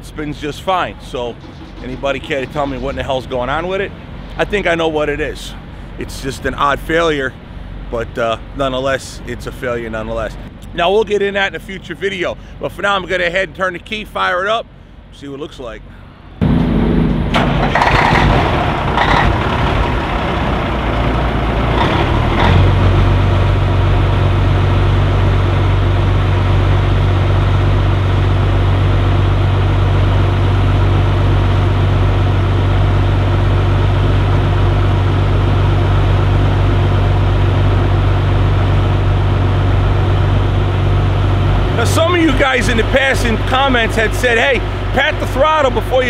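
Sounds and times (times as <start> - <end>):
diesel engine idling: 0.0 - 15.2, 15.8 - 46.0.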